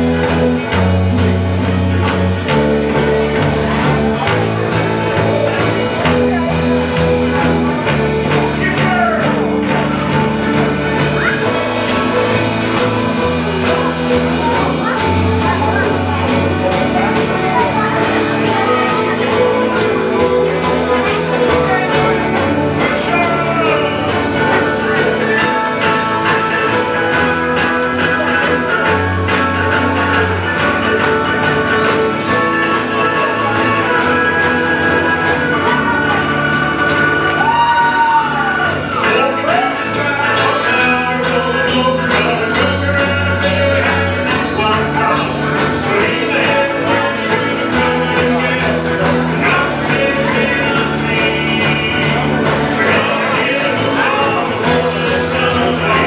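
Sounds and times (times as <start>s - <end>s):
banjo: 0.0s - 56.0s
live country band playing: 0.0s - 56.0s.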